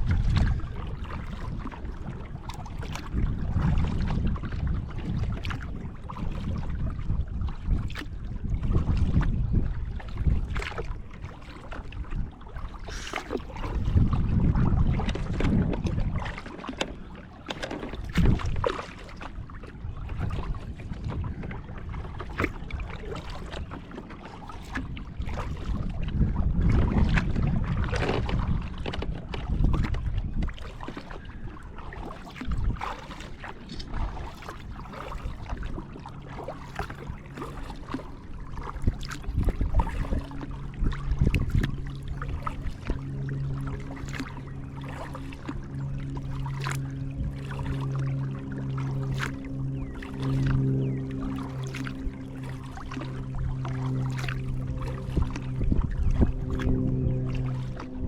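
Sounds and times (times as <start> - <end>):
paddle blades splashing: 0.0 - 58.0
wind rumbling on microphone: 0.0 - 58.0.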